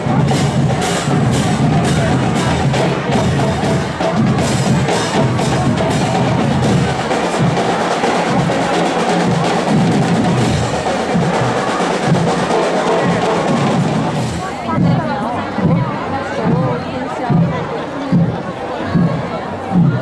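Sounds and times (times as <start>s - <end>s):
snare and bass drums beating: 0.0s - 16.7s
marching band playing: 0.0s - 20.0s.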